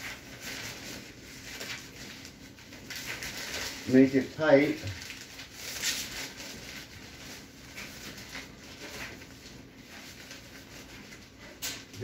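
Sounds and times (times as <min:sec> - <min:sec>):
plastic sheeting and paper crinkling: 0:00.0 - 0:12.0.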